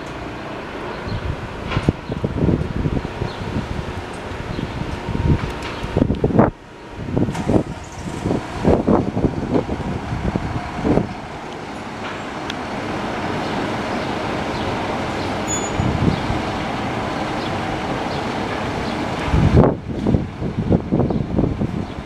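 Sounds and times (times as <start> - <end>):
diesel engine idling: 0.0 - 21.7
loud rumble: 0.0 - 22.0
wind buffeting microphone: 0.6 - 22.0.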